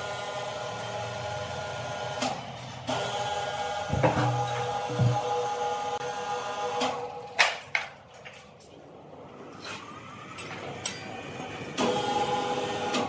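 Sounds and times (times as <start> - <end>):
electric hoist motor whine: 0.0 - 7.4, 9.3 - 13.0.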